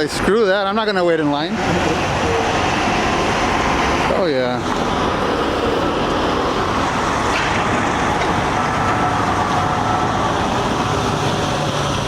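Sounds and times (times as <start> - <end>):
road traffic: 0.0 - 12.0
truck engines running: 0.0 - 12.0.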